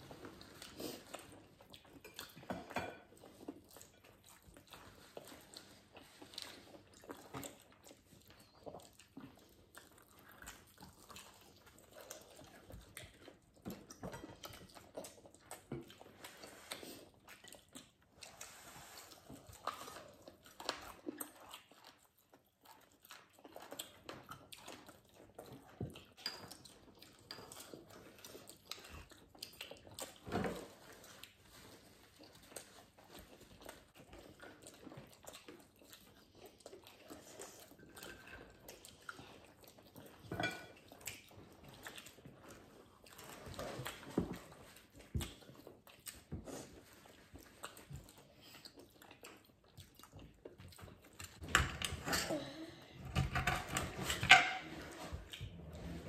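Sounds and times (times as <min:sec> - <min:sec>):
people chewing crispy fried chicken: 0:00.0 - 0:54.1.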